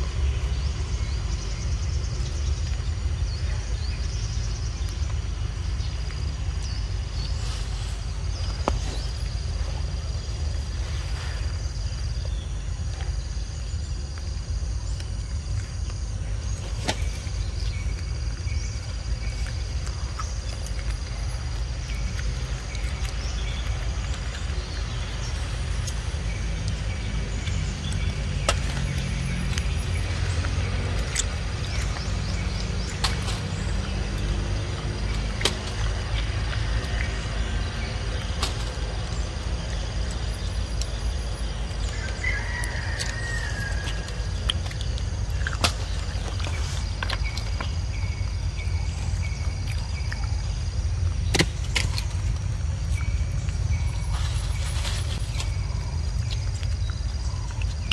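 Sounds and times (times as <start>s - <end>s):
insect drone: 0.0s - 57.9s.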